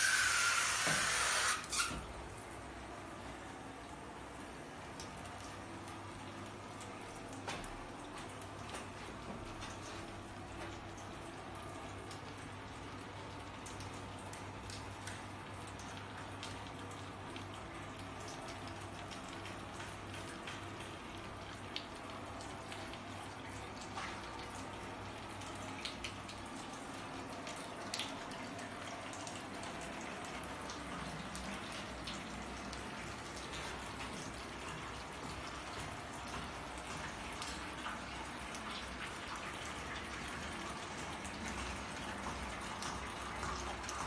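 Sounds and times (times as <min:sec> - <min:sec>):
water drips: 0:00.0 - 0:44.0
water trickling through pipes: 0:00.0 - 0:44.0.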